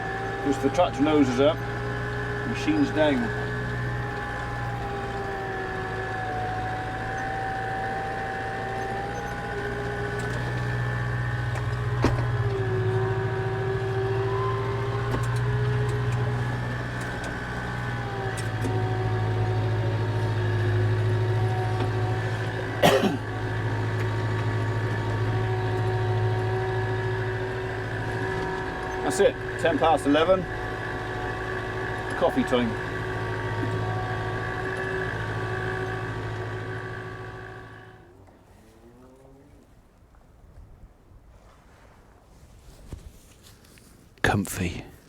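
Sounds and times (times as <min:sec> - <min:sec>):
tractor engine running under load: 0:00.0 - 0:38.1.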